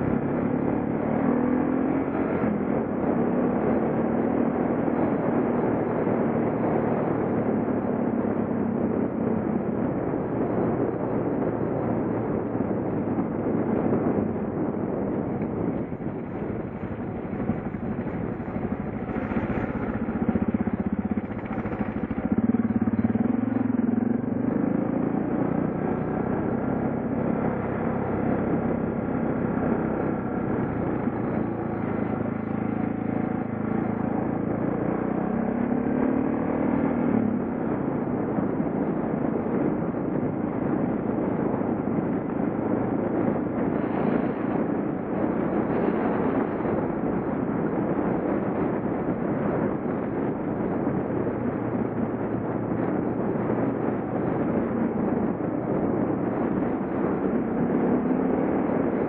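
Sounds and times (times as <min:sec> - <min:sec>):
motorcycle engine revving: 0:00.0 - 0:09.8, 0:10.4 - 0:59.0
steady rush of noise: 0:00.0 - 0:59.0.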